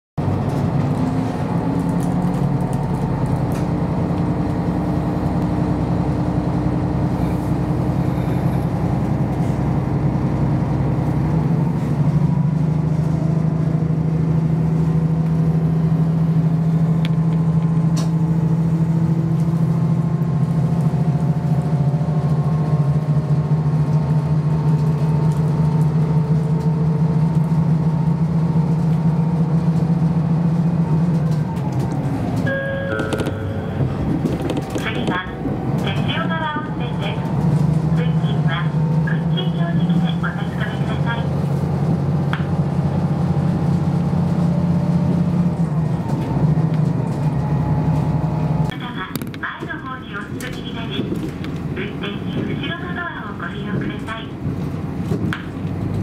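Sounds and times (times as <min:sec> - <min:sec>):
train diesel engine drone: 0:00.2 - 0:56.0.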